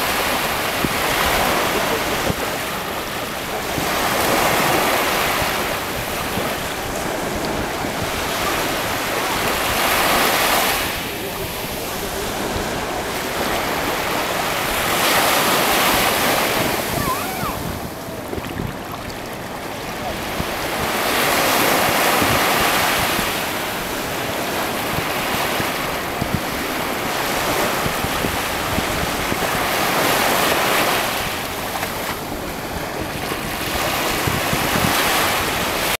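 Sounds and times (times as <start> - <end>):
ocean surf breaking on beach: 0.0 - 36.0.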